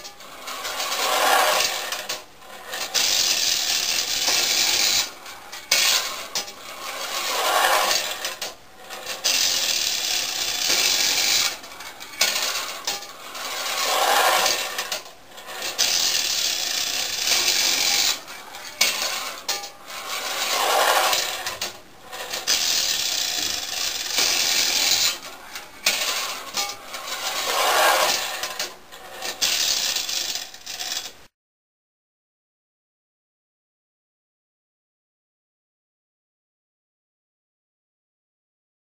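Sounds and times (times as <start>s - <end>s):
toy tram rattling on tin rails: 0.0s - 31.3s.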